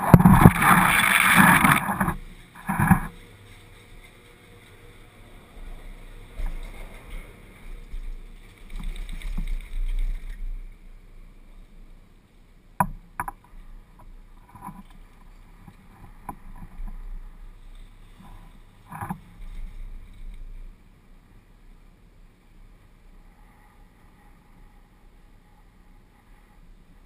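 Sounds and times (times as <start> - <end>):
chairlift low hum: 0.0 - 27.0.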